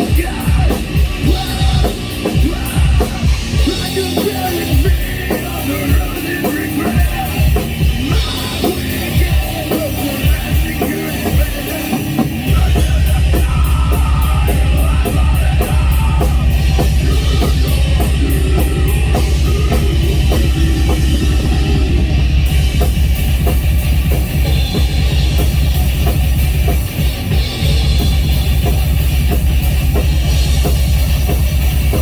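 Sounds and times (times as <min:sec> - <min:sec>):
heavy rock music with drums: 0:00.0 - 0:32.0.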